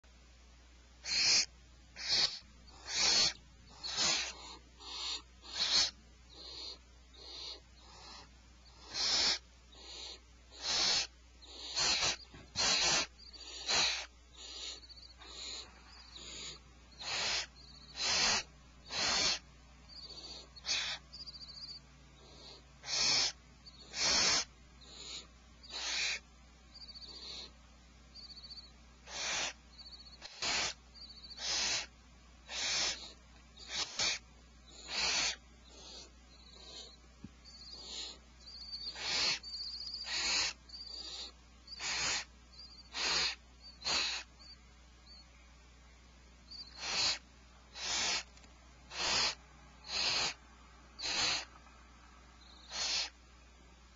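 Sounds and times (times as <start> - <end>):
barn owls hissing screeches: 1.0 - 27.6, 28.2 - 45.2, 46.5 - 51.6, 52.4 - 53.2.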